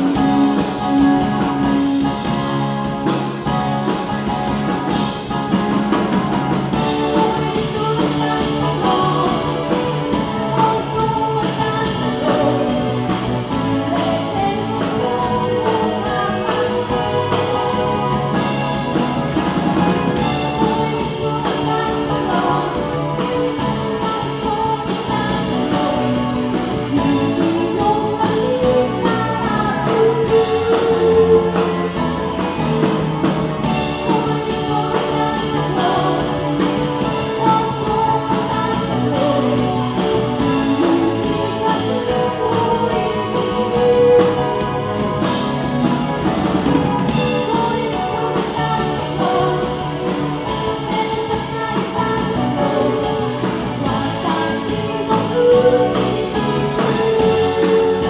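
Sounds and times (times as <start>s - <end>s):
drum kit: 0.0s - 58.0s
electric bass: 0.0s - 58.0s
electric guitar: 0.0s - 58.0s
keyboard: 0.0s - 58.0s
woman singing: 6.6s - 58.0s.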